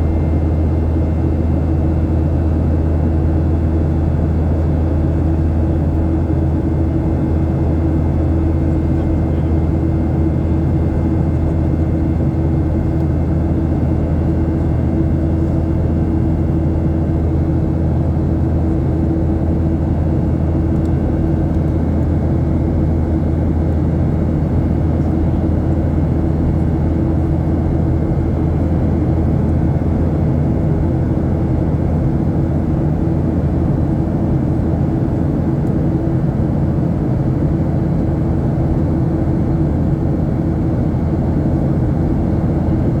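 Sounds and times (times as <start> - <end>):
airplane cabin drone: 0.0 - 43.0.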